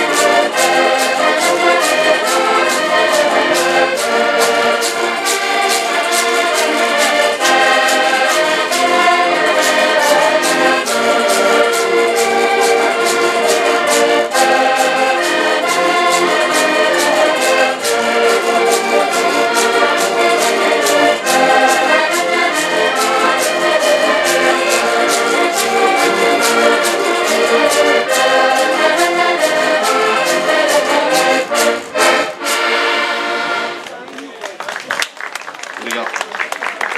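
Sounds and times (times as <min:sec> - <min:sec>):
piano accordions playing: 0:00.0 - 0:33.9.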